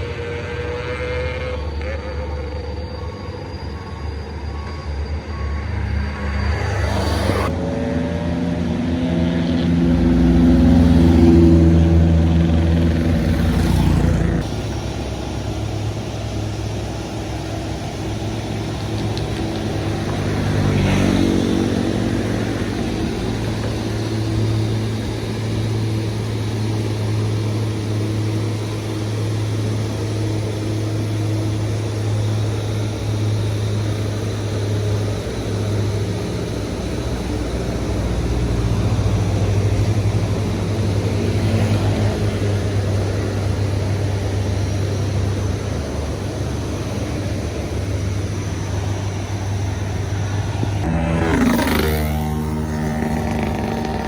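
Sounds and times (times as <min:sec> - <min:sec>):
engine revving under throttle: 0:00.0 - 0:04.0, 0:05.2 - 0:54.0
heavy vehicle engines running: 0:00.0 - 0:54.0.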